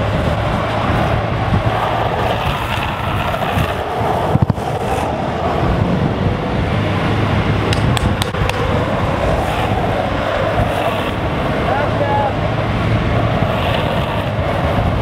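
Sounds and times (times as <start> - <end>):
longboard wheels rolling on asphalt: 0.0 - 15.0
wind rushing over microphone: 0.0 - 15.0.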